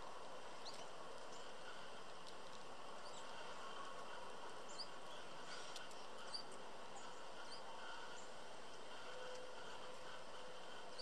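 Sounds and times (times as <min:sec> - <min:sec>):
songbirds chirping: 0:00.0 - 0:11.0
steady background hiss: 0:00.0 - 0:11.0.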